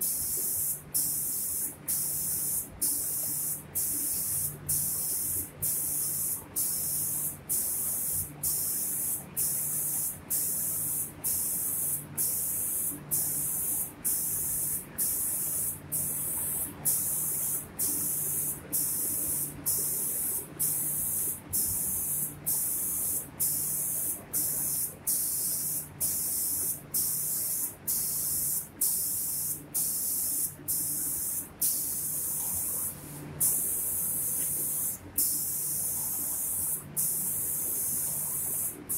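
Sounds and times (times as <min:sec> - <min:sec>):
spray gun hissing: 0:00.0 - 0:38.9.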